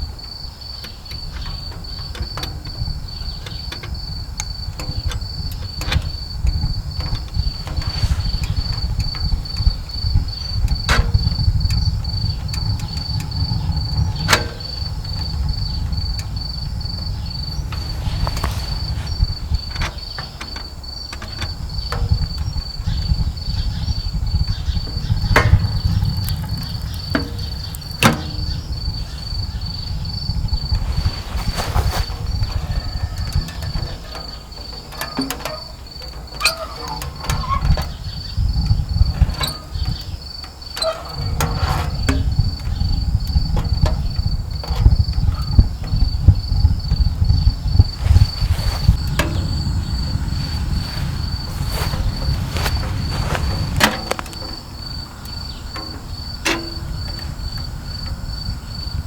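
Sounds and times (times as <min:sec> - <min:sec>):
cricket chirping: 0:00.0 - 0:59.0
low uneven rumble: 0:03.1 - 0:20.9, 0:21.5 - 0:34.9, 0:40.9 - 0:59.0.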